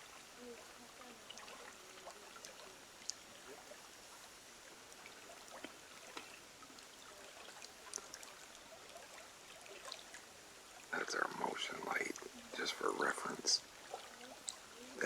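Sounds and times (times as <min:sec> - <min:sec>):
water trickling: 0:00.0 - 0:15.0
sharp ticks and drips: 0:01.0 - 0:15.0.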